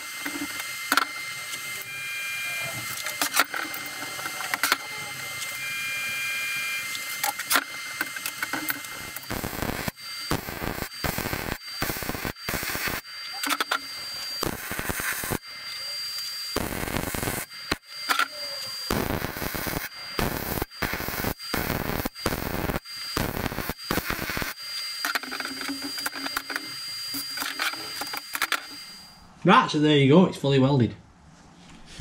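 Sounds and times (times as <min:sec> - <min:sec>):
welding arc crackling: 0:00.0 - 0:29.2.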